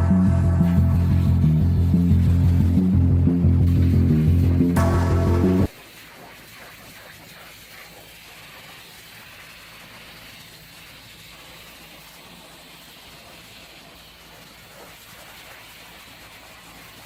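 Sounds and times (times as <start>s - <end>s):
pressure washer spray hissing: 0.6s - 17.0s.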